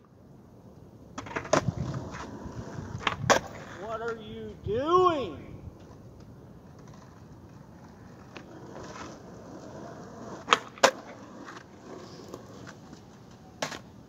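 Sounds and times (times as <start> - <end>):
skateboard cracking on asphalt: 1.1 - 4.2, 5.8 - 14.0.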